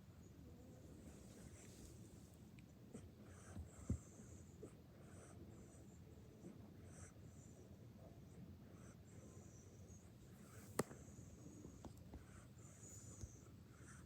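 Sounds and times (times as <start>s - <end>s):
dog breathing softly: 0.7s - 14.0s.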